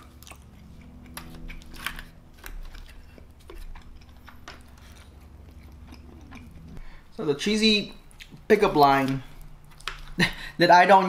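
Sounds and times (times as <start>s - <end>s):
wet chewing: 0.0s - 7.1s, 7.9s - 10.6s
faint steady hum: 0.0s - 11.0s.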